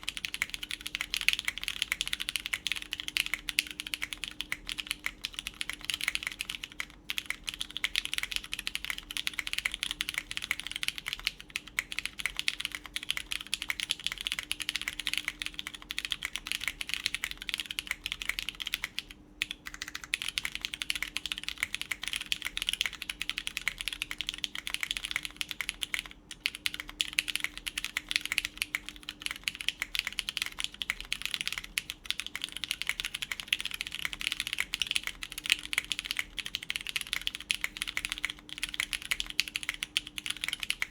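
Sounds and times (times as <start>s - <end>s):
typing on a mechanical keyboard: 0.0s - 40.9s.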